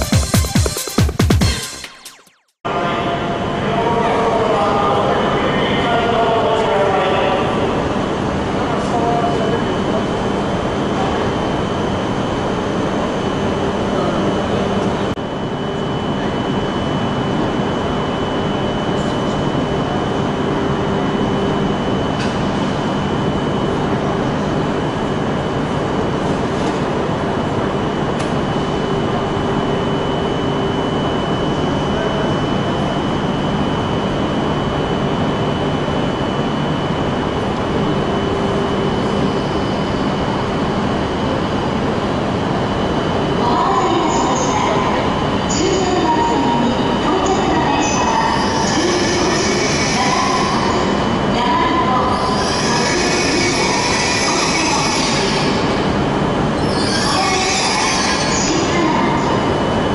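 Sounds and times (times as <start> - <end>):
thin high whine: 1.6 - 59.9
idle train hum and hiss: 2.7 - 59.9.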